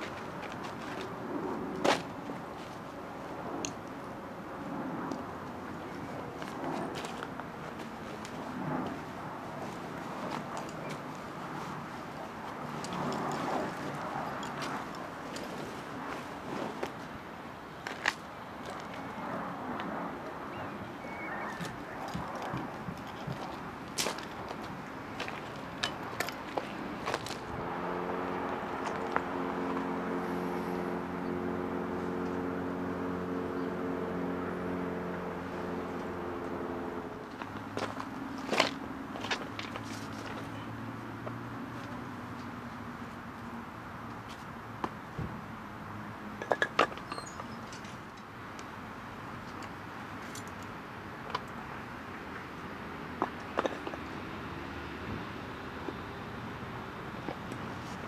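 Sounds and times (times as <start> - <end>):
vehicle engine humming: 0.0 - 58.0.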